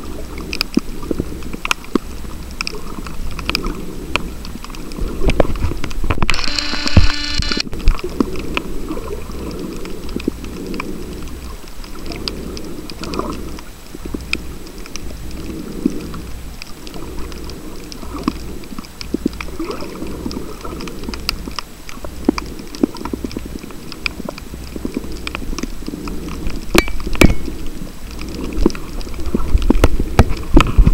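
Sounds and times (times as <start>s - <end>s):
clicks and crackles: 0.0s - 30.9s.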